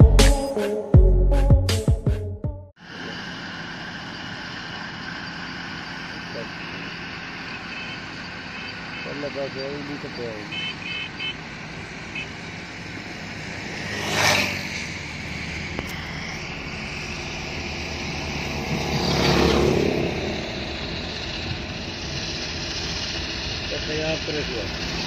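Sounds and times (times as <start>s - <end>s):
vehicle road and engine noise: 2.7s - 25.0s
vehicles passing close by: 2.8s - 25.0s.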